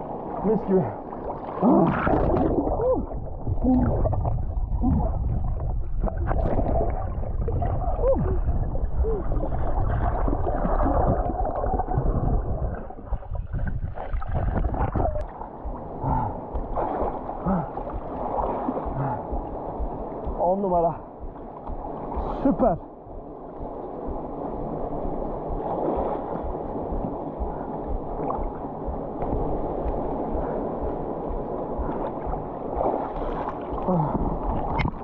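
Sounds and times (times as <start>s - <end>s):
muffled water rush: 0.0s - 35.0s
underwater bubbling: 0.0s - 35.0s.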